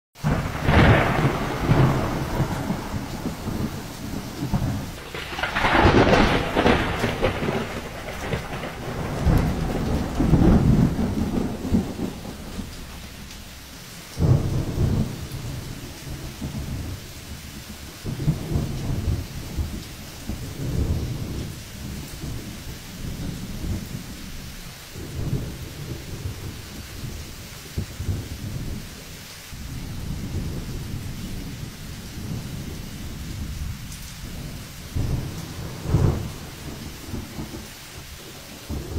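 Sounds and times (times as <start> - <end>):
heavy rain hiss: 0.2 - 38.9
storm wind gusts: 0.2 - 38.9.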